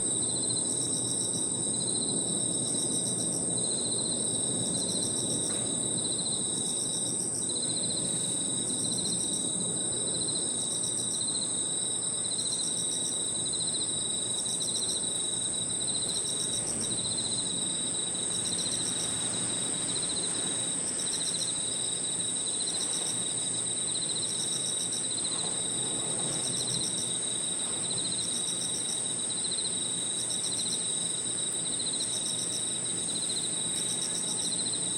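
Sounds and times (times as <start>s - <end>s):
high insect trill: 0.0s - 34.9s
pulsed cricket chirping: 0.0s - 34.9s.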